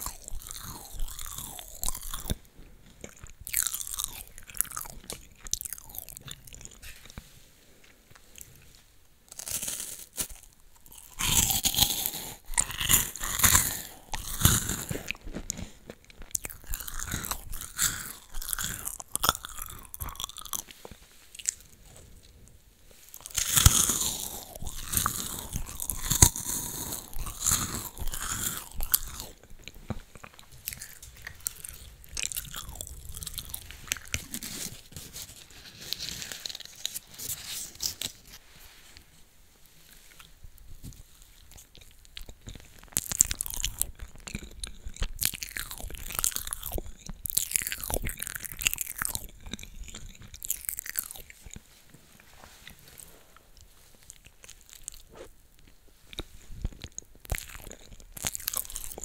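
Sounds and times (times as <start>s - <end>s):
crunchy chewing of wafer: 0.0s - 39.1s, 39.8s - 59.0s.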